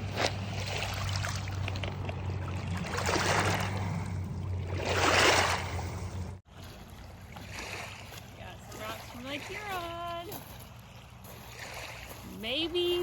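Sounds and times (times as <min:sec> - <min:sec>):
water washing in: 0:00.0 - 0:13.0.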